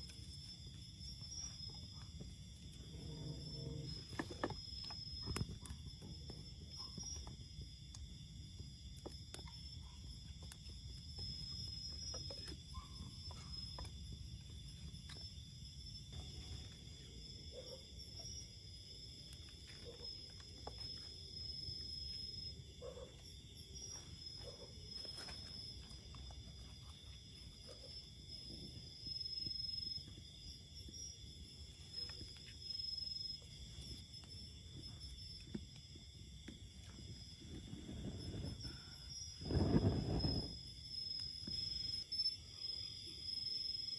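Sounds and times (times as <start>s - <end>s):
high insect chorus: 0.0s - 43.9s.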